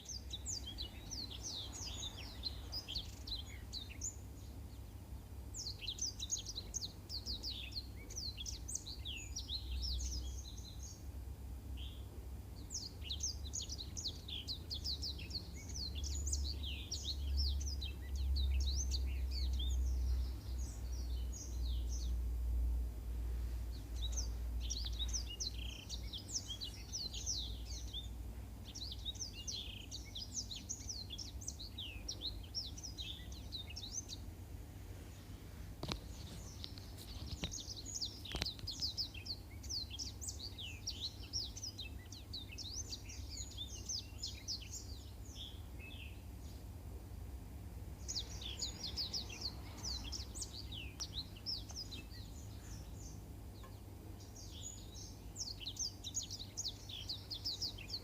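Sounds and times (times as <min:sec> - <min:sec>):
canary singing chirps and trills: 0:00.0 - 0:22.8, 0:23.6 - 0:34.5, 0:35.8 - 0:58.0
steady low hum: 0:00.0 - 0:58.0.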